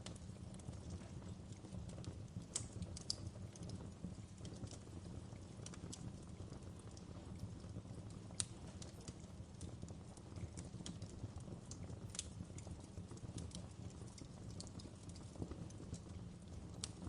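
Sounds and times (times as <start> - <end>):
fire popping and snapping: 0.0 - 17.0
low rumble of flames: 0.0 - 17.0.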